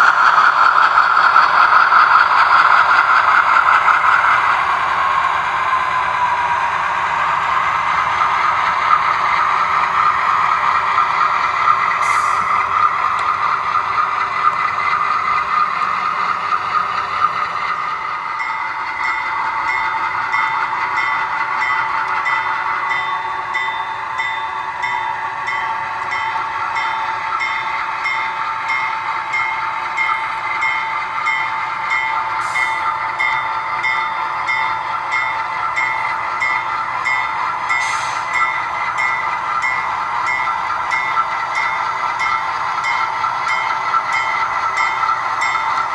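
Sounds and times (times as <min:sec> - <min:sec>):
locomotive bell ringing: 0:06.2 - 0:45.9.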